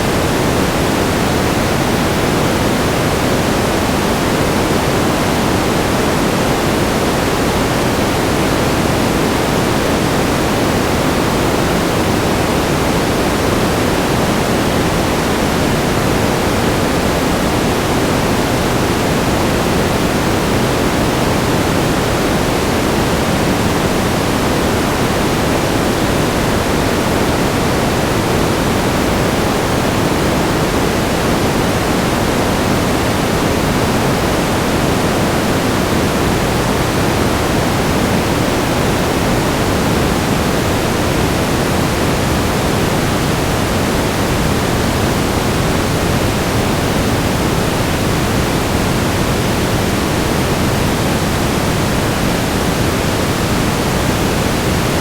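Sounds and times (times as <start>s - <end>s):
steady static hiss: 0.0s - 55.0s.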